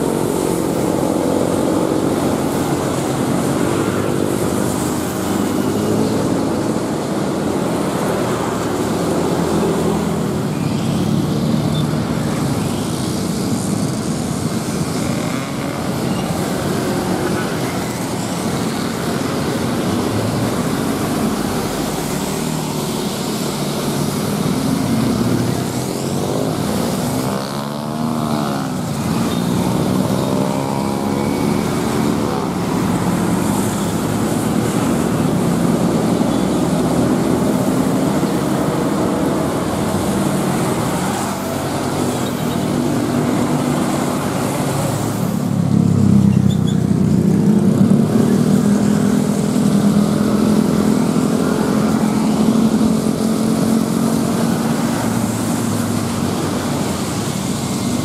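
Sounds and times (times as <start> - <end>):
buses passing: 0.0 - 58.0
motorcycle engines rumbling: 0.0 - 58.0
motorcycles passing: 0.0 - 58.0.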